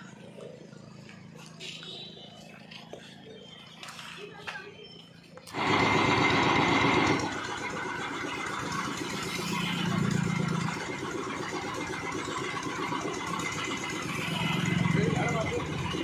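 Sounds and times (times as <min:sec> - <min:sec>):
small engine idling: 0:00.0 - 0:04.2, 0:05.0 - 0:16.0.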